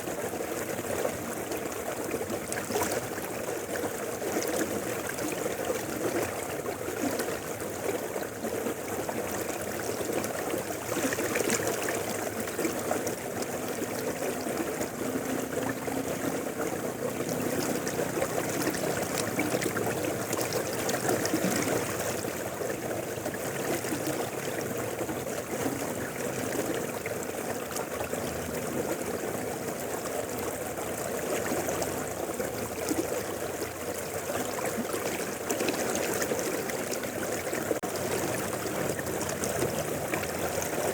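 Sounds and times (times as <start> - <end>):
river babbling over stones: 0.0 - 40.9.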